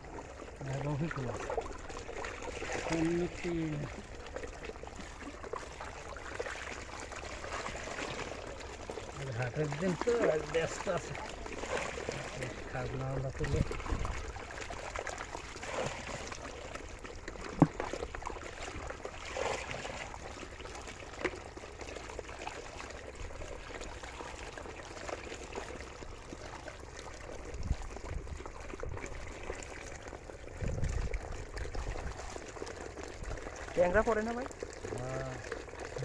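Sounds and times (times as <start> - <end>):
water trickling and splashing: 0.0 - 36.0.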